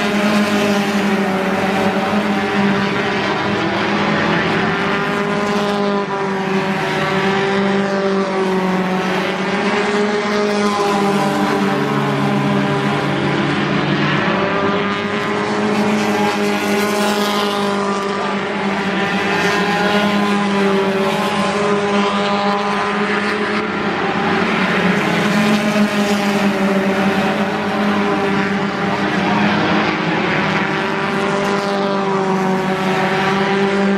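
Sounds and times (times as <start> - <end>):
racing car engines droning: 0.0 - 33.9.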